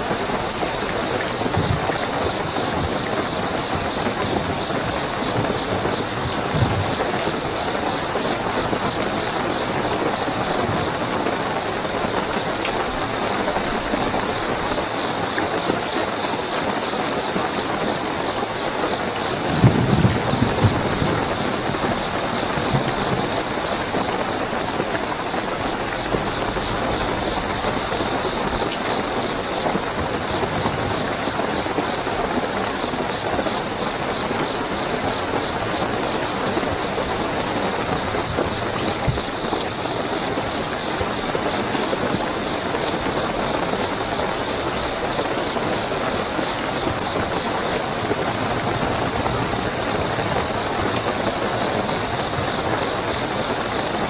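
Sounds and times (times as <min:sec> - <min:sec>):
cricket trill: 0:00.0 - 0:54.0
heavy rain: 0:00.0 - 0:54.0.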